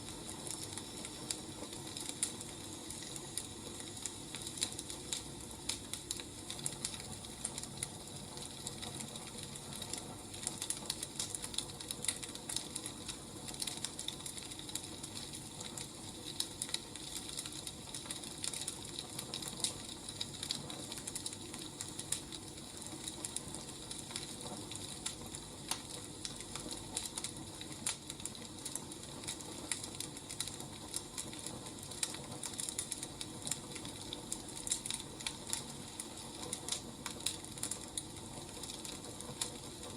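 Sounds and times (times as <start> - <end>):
firewood burning with crackles: 0.0 - 39.9.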